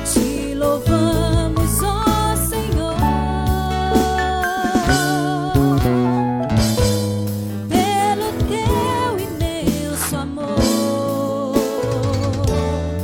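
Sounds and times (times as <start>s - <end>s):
woman singing with vibrato: 0.0s - 6.0s, 7.7s - 12.8s
gospel band playing: 0.0s - 13.0s.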